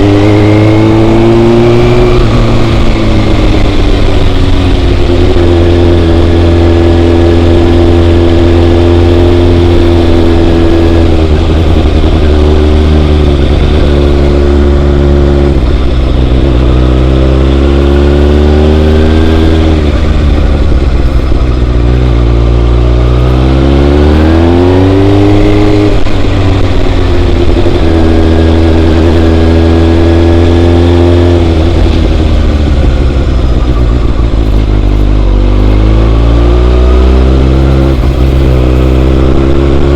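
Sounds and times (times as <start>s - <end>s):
low drone: 0.0s - 39.9s
motorcycle engine running: 0.0s - 39.9s.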